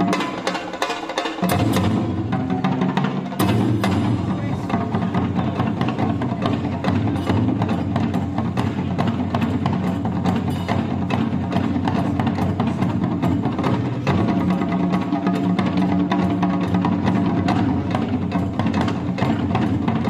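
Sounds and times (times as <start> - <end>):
drums and percussion: 0.0 - 20.0.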